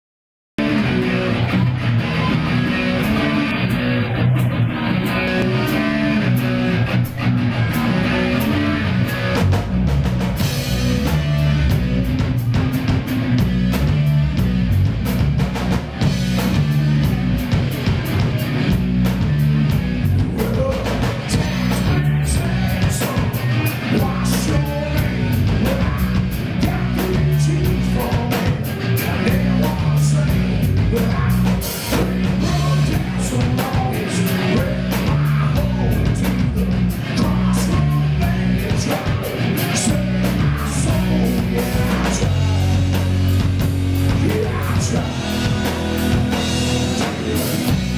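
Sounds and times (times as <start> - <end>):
drum kit beat: 0.6 - 47.9
electric guitars: 0.6 - 47.9.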